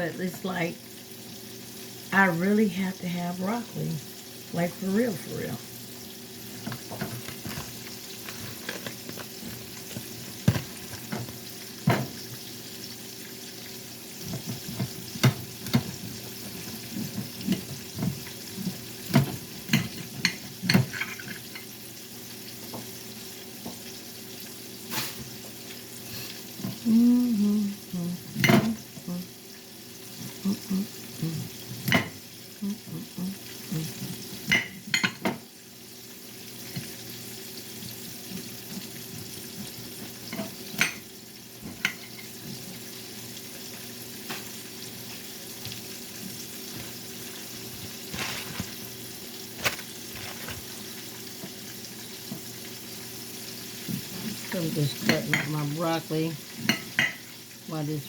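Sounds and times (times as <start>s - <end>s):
fish sizzling in a pan: 0.0s - 58.0s.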